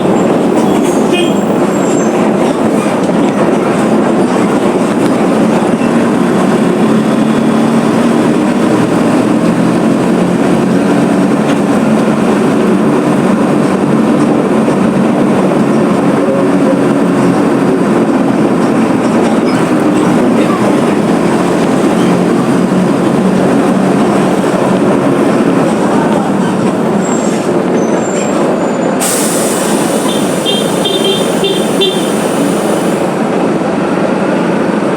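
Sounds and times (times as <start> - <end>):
bus diesel engine running: 0.0 - 34.9
road and body rattle: 0.0 - 34.9.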